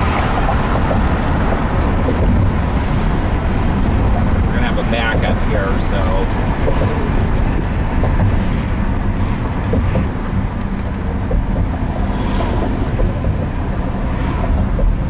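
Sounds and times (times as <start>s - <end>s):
tyre and engine rumble in car: 0.0s - 15.0s.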